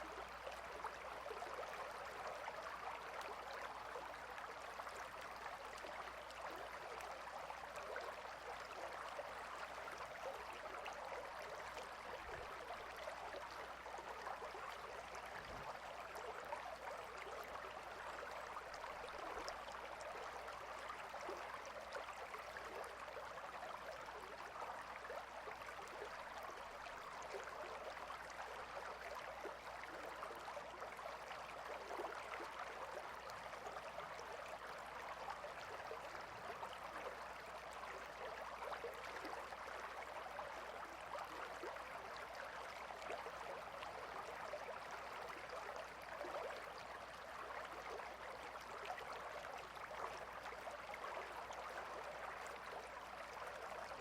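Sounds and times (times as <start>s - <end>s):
faint rush of river water: 0.0s - 54.0s.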